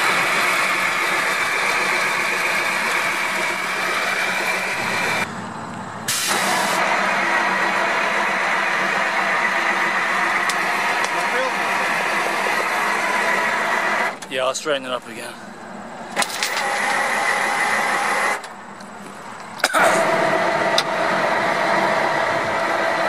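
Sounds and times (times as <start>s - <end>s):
truck engine running: 0.0s - 23.0s
winch whine: 0.0s - 23.0s.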